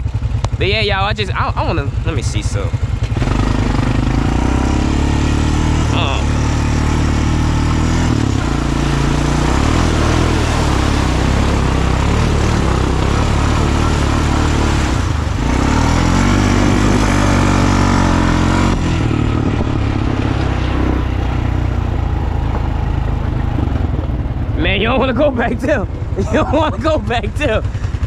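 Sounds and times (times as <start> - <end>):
atv engine revving: 0.0 - 28.0
steady rushing noise: 1.9 - 28.0.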